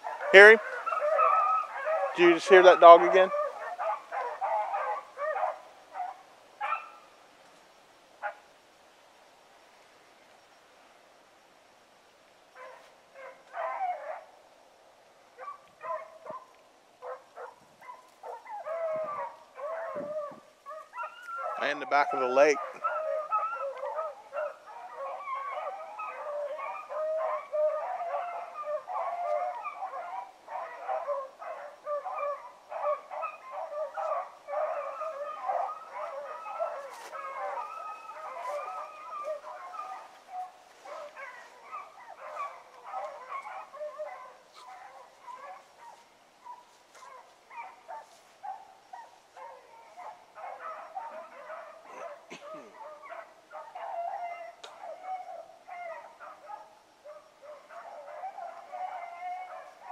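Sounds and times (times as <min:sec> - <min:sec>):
hounds baying and barking: 0:00.0 - 0:07.2, 0:08.2 - 0:08.5, 0:12.5 - 0:14.6, 0:15.3 - 0:59.9.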